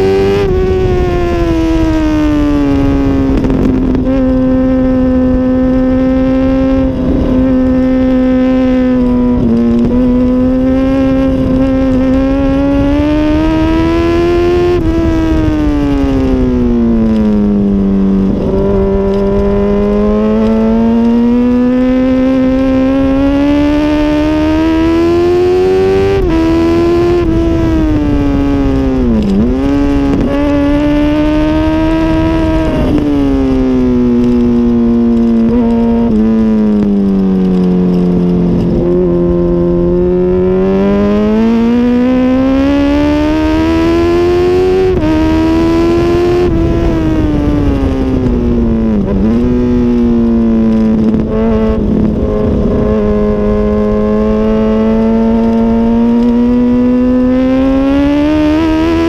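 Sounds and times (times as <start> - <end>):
motorcycle engine at racing speed: 0.0 - 59.0.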